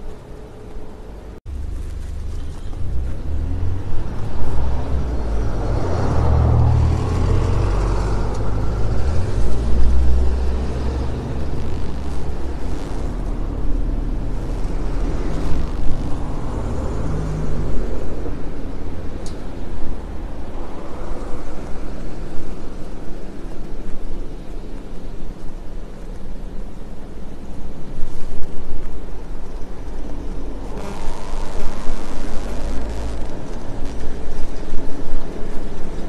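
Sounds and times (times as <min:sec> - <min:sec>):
bicycle tyre road noise: 0:00.0 - 0:36.0
traffic passing: 0:00.0 - 0:36.0.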